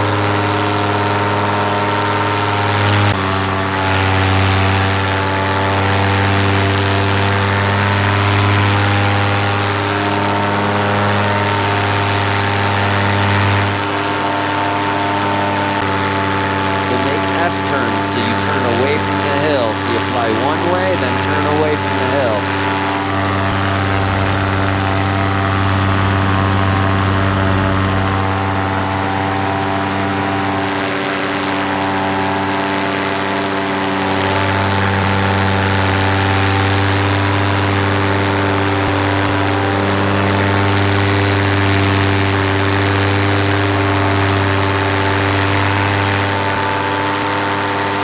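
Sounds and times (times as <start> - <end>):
paramotor engine droning: 0.0 - 48.0.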